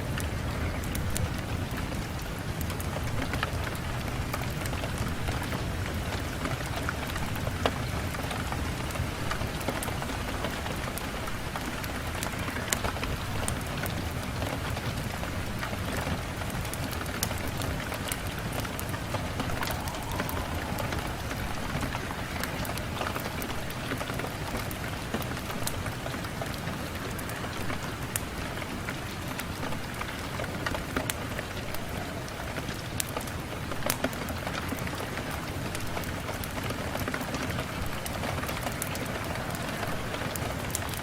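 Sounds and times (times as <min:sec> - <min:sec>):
rain on a window: 0:00.0 - 0:41.0
raindrop ticks: 0:00.0 - 0:41.0.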